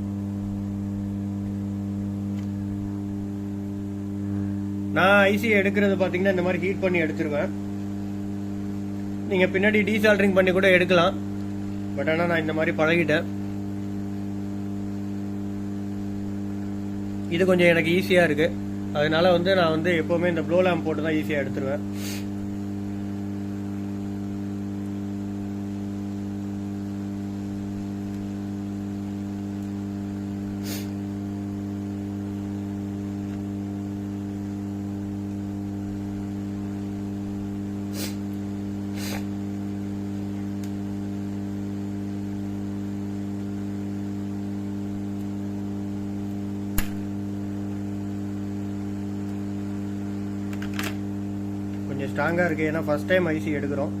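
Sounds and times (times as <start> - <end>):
blow lamp humming: 0.0 - 54.0.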